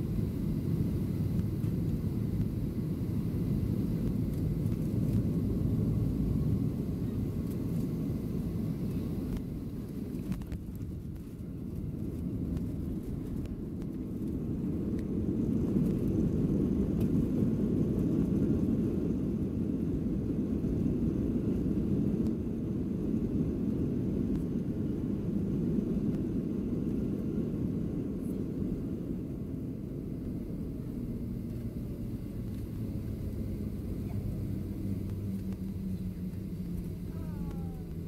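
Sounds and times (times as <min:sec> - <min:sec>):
jet engines and wheels rumbling: 0:00.0 - 0:38.0.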